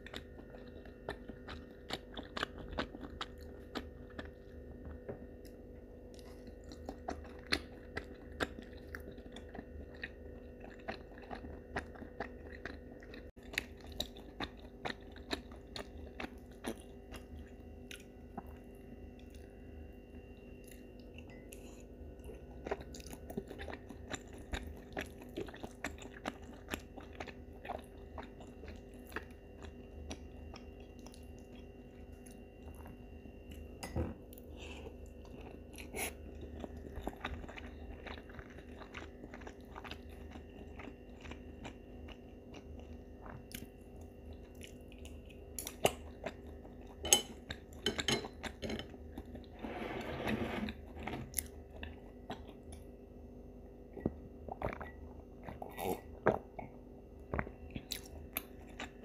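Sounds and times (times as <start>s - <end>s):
person chewing noodles: 0.0s - 53.1s, 53.8s - 59.0s
faint low hum: 0.0s - 59.0s.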